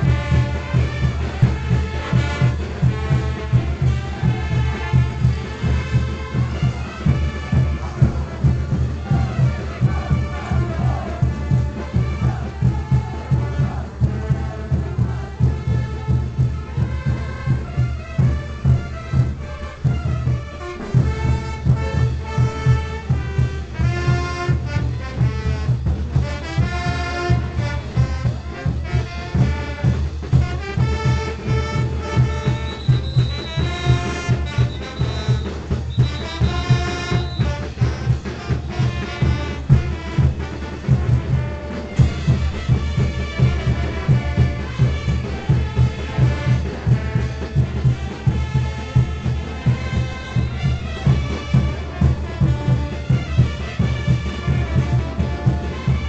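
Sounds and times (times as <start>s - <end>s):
horns playing melody: 0.0s - 56.0s
steady drumbeat: 0.0s - 56.0s.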